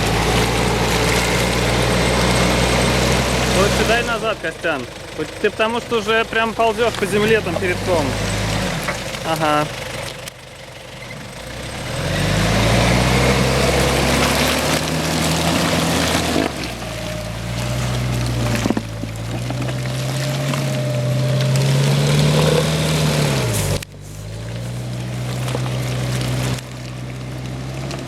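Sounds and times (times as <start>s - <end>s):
suv engine revving hard: 0.0s - 10.1s, 11.3s - 28.0s
wheels churning through mud: 0.0s - 28.0s.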